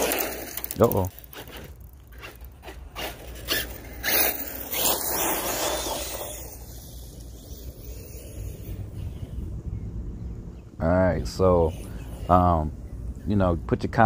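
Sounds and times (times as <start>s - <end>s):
rc truck motor and tyre noise: 0.0s - 14.0s.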